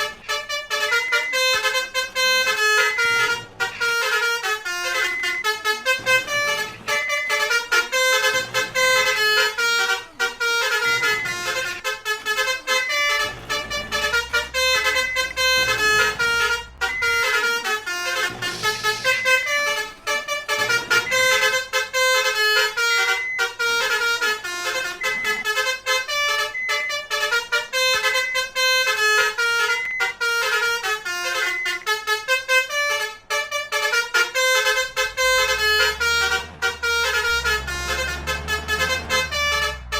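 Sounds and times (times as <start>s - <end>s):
musical vehicle horn melody: 0.0s - 39.9s.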